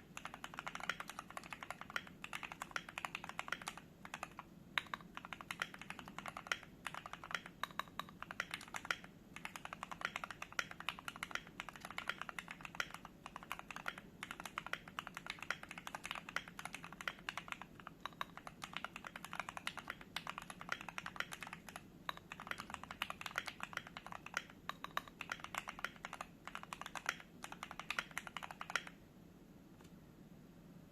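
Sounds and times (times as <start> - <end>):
mechanical keyboard typing: 0.0 - 29.0.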